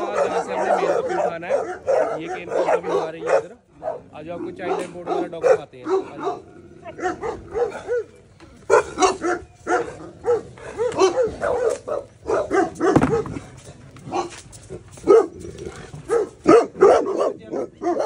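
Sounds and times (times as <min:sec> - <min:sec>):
dogs barking: 0:00.0 - 0:18.0.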